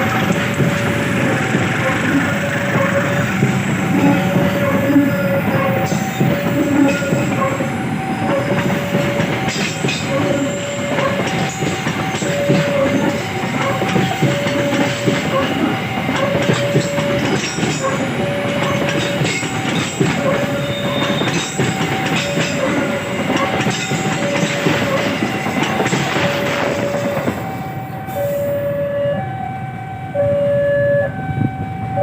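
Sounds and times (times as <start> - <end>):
train wheels clattering on rails: 0.0 - 28.0
level crossing two-tone alarm: 0.0 - 32.0.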